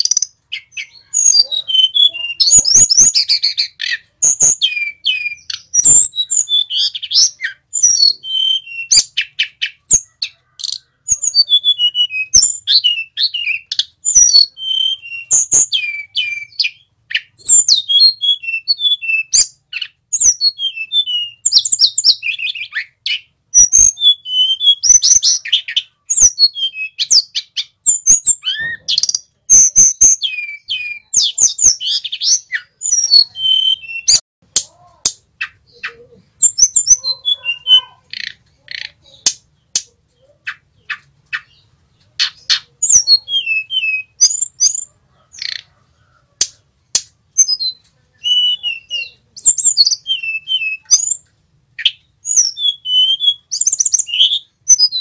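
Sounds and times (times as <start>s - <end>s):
bird singing whistled notes: 0.0s - 34.2s, 35.4s - 38.4s, 40.5s - 45.6s, 47.3s - 55.0s.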